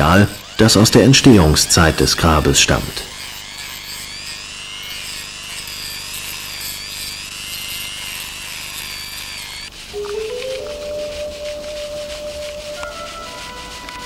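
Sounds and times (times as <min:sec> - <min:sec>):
rotary tool cutting plaster: 0:00.0 - 0:14.0.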